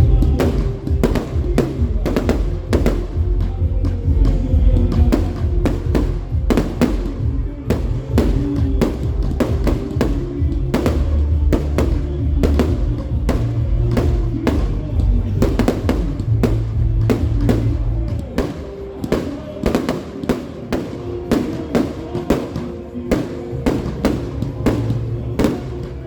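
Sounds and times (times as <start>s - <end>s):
fireworks cracking and banging: 0.0s - 26.0s
loud music with heavy bass: 0.0s - 26.0s.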